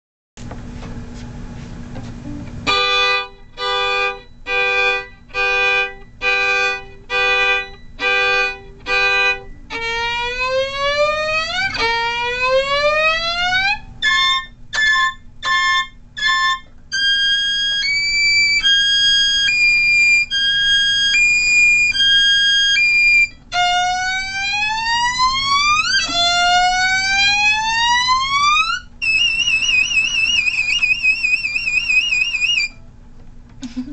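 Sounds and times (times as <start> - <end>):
violin imitating car alarm: 2.7 - 32.8.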